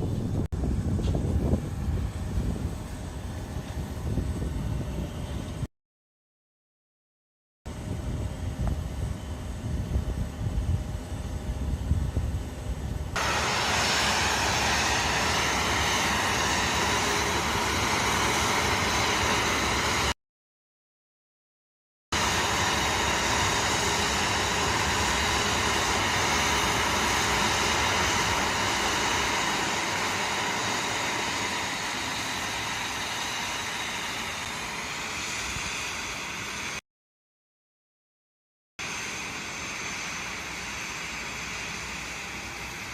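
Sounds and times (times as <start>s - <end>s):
jet engines running: 0.0s - 5.7s, 7.7s - 20.2s, 22.2s - 36.8s, 38.8s - 42.9s.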